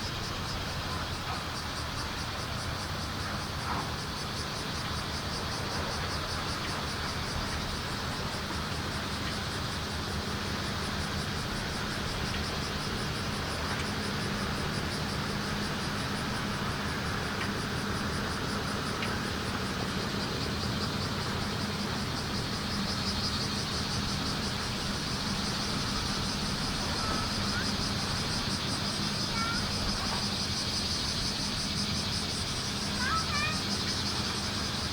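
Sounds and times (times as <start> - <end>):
cicadas buzzing: 0.0 - 34.9
low hum of traffic: 0.0 - 34.9.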